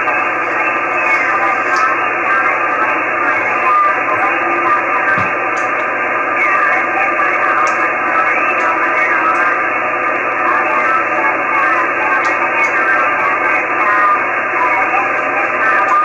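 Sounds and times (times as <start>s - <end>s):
radio hiss with wavering tones: 0.0s - 16.0s.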